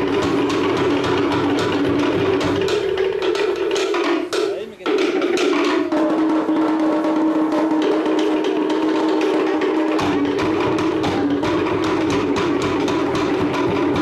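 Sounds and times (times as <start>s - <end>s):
deeper drum: 0.0s - 14.0s
wooden slit drums beaten rapidly: 0.0s - 14.0s.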